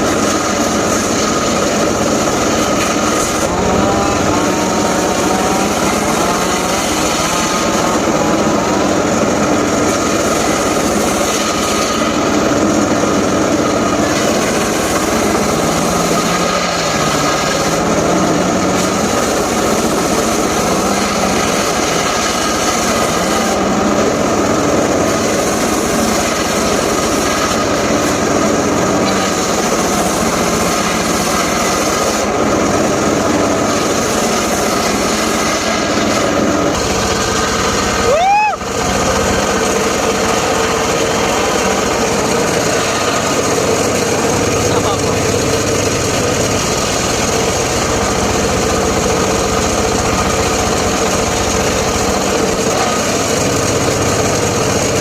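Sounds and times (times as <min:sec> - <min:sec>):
engine-driven saw cutting wood: 0:00.0 - 0:55.0.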